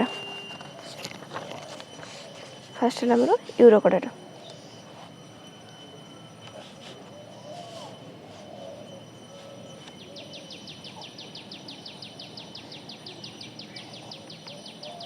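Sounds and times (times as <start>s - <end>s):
steady background noise: 0.0s - 15.0s
rapid trill of high chirps: 1.9s - 15.0s.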